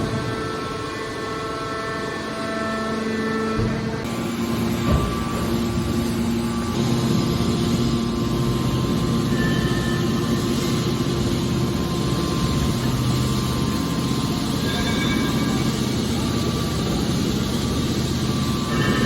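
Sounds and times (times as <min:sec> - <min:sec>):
baler machinery droning: 0:00.0 - 0:19.0.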